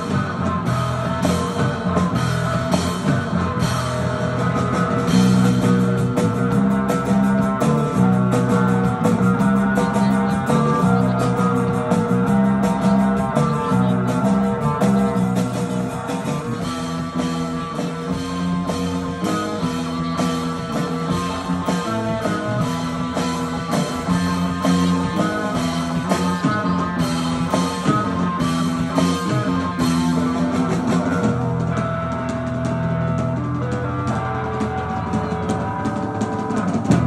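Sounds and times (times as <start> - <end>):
drum kit: 0.0 - 37.0
electric guitar melody: 0.0 - 37.0.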